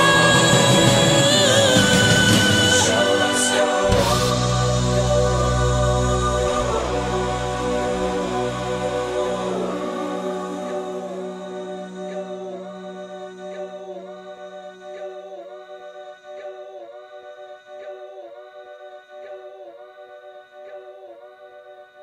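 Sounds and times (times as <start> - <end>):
layered vocal-like chord: 0.0 - 22.0.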